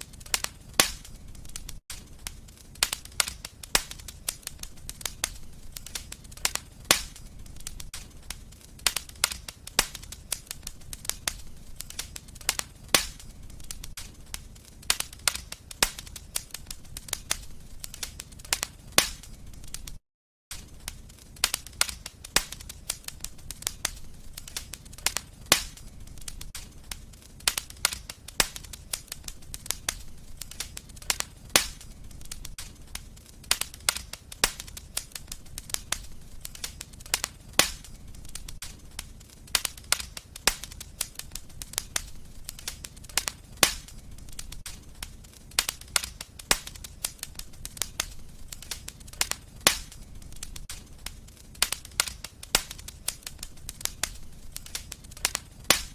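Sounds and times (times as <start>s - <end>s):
low rumble of flame: 0.0s - 55.9s
wood fire crackling: 0.0s - 55.9s.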